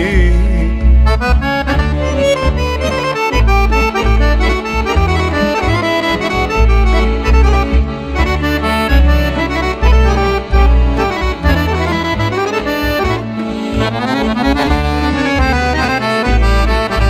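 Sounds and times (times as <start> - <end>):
bass and rhythm backing: 0.0 - 17.0
accordion playing quick runs: 0.7 - 17.0.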